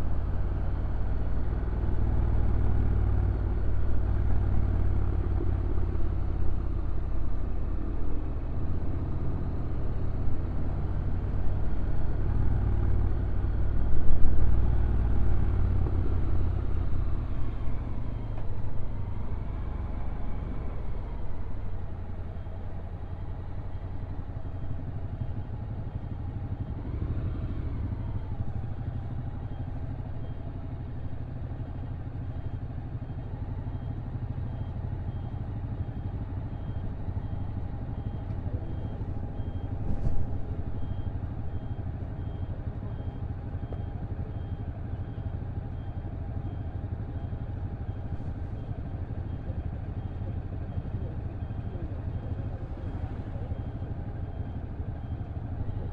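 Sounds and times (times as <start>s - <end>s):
road and wind noise: 0.0s - 55.9s.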